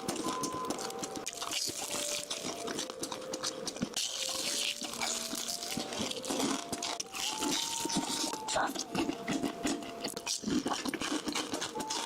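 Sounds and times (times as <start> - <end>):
simple melody tones: 0.0 - 10.2
crunching crispy fried meat: 0.0 - 12.0.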